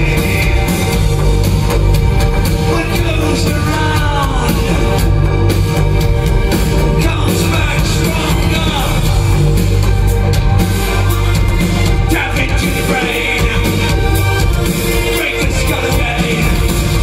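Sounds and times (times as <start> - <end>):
heavy bass: 0.0 - 17.0
industrial band playing live: 0.0 - 17.0.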